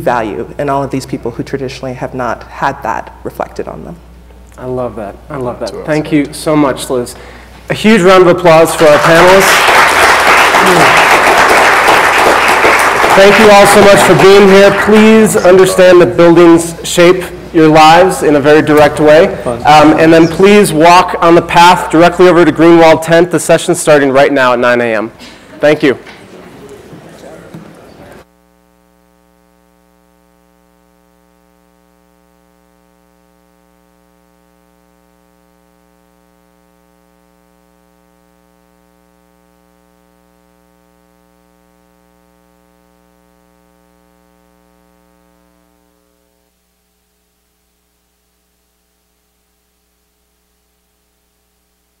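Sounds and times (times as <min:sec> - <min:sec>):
electrical mains buzz: 0:00.0 - 0:52.0.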